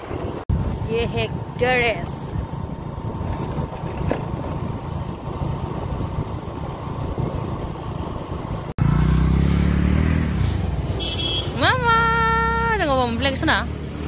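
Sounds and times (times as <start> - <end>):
louder engine hum: 0.0 - 14.0
vehicle engine rumbling: 0.0 - 14.0.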